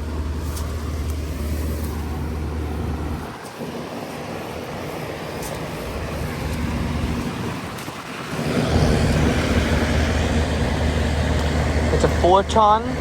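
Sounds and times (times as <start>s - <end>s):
compressor low hum: 0.0s - 13.0s
condenser fan rushing: 0.0s - 13.0s.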